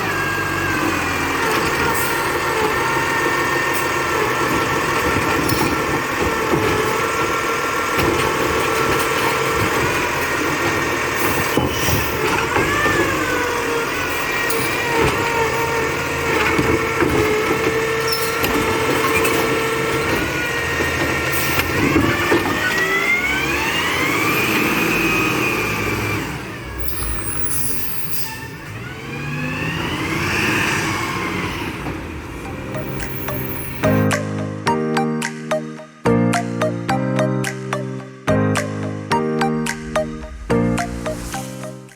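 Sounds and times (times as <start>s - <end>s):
recycling truck whining: 0.0s - 34.2s.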